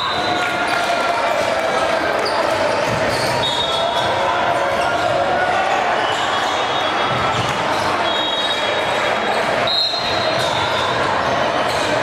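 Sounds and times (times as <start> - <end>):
chatter of people: 0.0 - 12.0.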